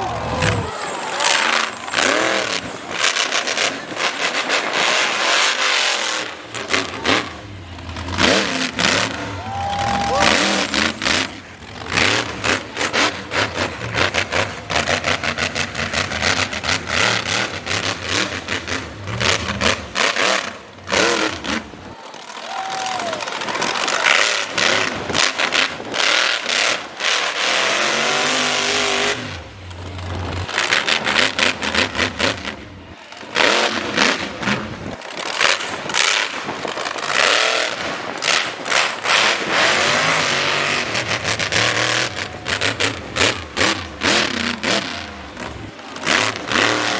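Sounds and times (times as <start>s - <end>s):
monster truck engine revving: 0.0s - 46.9s.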